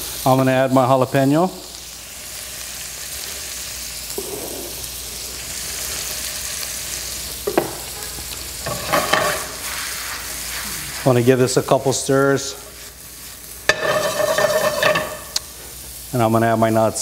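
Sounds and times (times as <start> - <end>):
vegetables sizzling in butter: 0.0 - 17.0.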